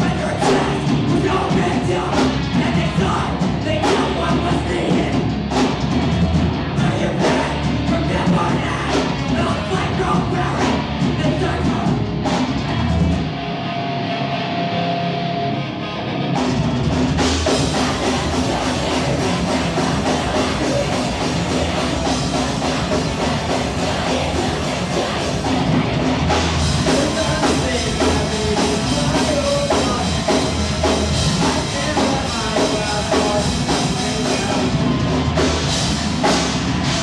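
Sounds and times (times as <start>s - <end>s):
rock band playing live: 0.0s - 37.0s.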